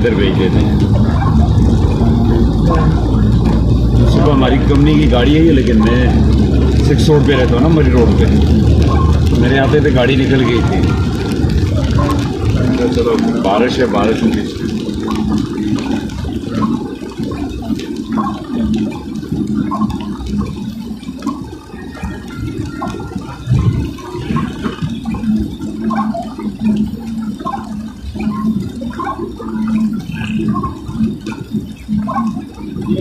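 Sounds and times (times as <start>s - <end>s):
car engine and tyres rumbling: 0.0s - 33.0s
water hissing and splashing: 0.0s - 33.0s.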